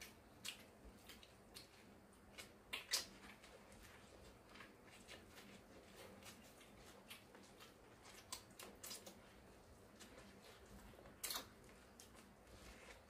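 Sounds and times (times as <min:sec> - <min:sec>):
people biting corn and chewing: 0:00.0 - 0:13.0.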